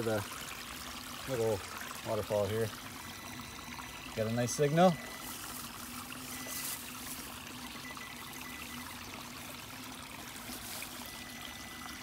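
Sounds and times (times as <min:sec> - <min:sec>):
small waterfall trickling and splashing: 0:00.0 - 0:12.0.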